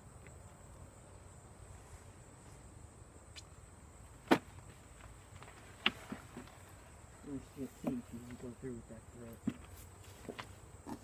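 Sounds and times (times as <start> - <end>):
high drone of insects: 0.0 - 11.0.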